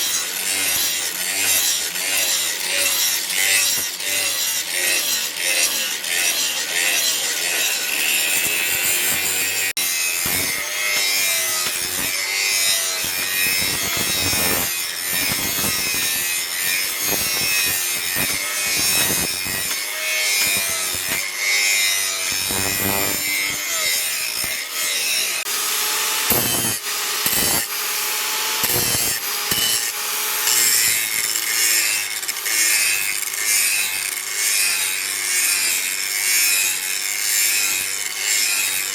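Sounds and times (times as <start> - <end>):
steel blade rasping scrape: 0.0 - 25.4, 26.3 - 27.8, 28.6 - 32.9.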